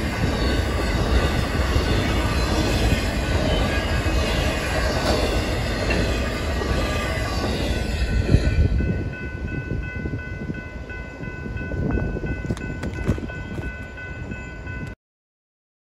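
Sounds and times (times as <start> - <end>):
freight train wheels rumbling: 0.0 - 15.0
high ringing tone: 0.0 - 15.0.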